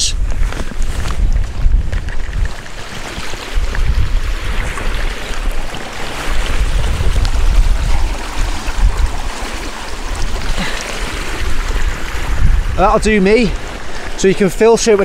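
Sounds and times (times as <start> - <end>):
mountain stream running: 0.0 - 15.0
wind rumble on microphone: 0.0 - 15.0
water bag filling in stream: 0.2 - 15.0.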